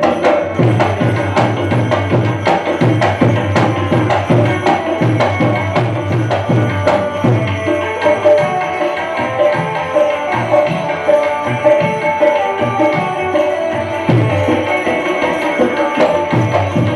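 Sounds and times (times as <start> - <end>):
hand drums beating: 0.0 - 16.9
held melody line: 0.0 - 16.9.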